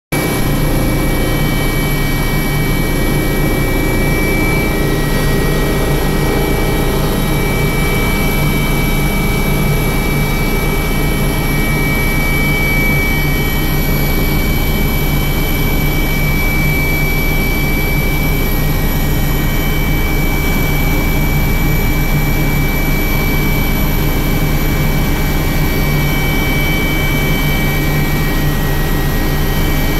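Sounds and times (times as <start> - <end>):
helicopter engine and rotor drone: 0.1 - 29.9
high constant whine: 0.2 - 29.9.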